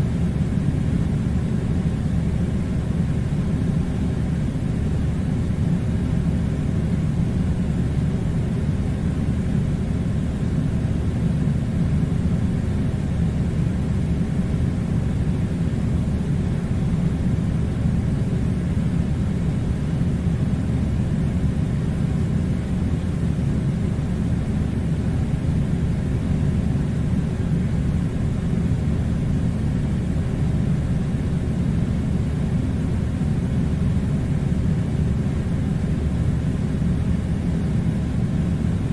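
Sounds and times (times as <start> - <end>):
faint constant hum: 0.0 - 38.9.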